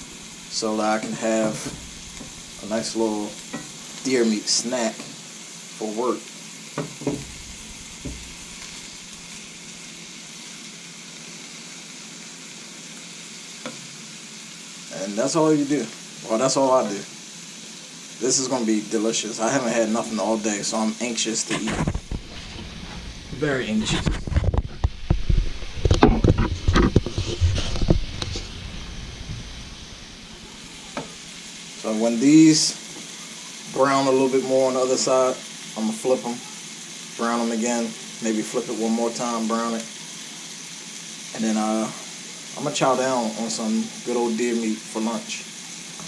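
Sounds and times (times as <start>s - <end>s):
meat sizzling in skillet: 0.0s - 46.0s.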